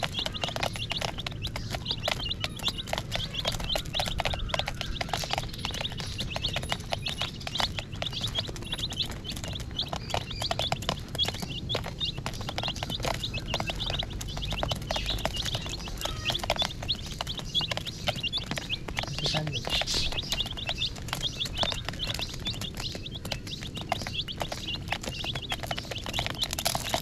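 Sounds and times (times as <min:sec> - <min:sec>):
baby chicks peeping: 0:00.0 - 0:27.0
beaks pecking plastic lid: 0:00.0 - 0:27.0.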